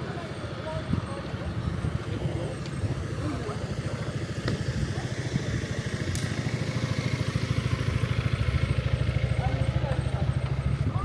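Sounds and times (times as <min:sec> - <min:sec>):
vehicle engine throbbing: 0:00.0 - 0:11.0.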